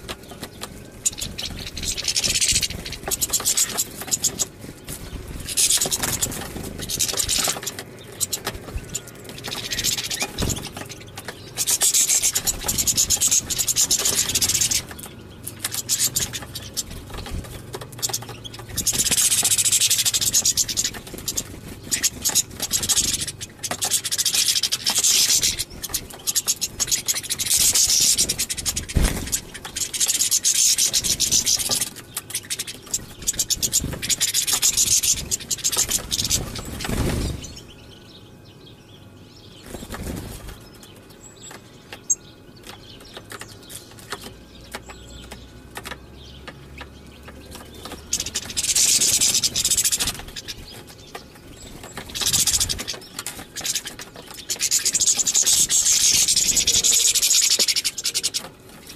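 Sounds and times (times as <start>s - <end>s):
finches twittering: 0.0s - 58.9s.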